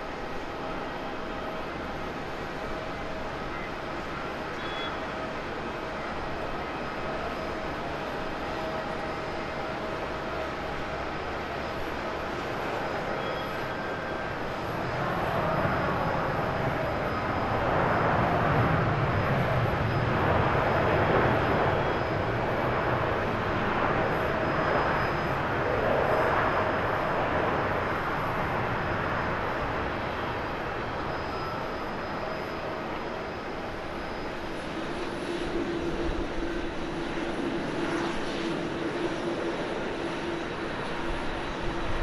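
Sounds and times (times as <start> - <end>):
jet engines rumbling: 0.0 - 42.0.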